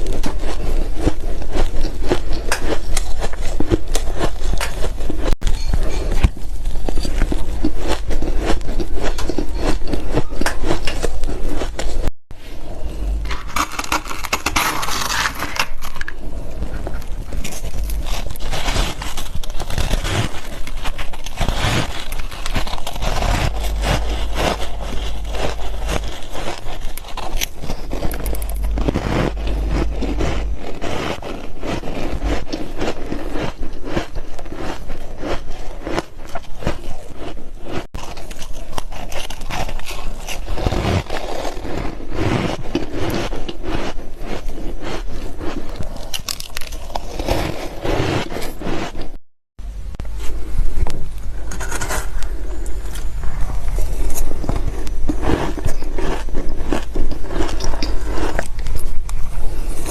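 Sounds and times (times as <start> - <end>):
ice being chewed: 0.0 - 49.2, 50.8 - 59.9.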